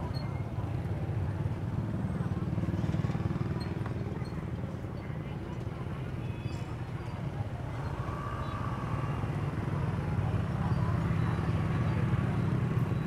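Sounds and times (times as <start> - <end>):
motorbike engines running: 0.0 - 13.0.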